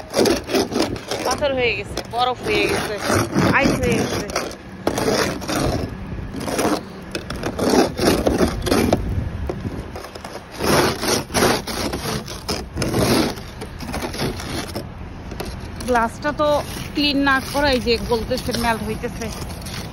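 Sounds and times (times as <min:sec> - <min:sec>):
ice scraper scraping ice: 0:00.0 - 0:19.9.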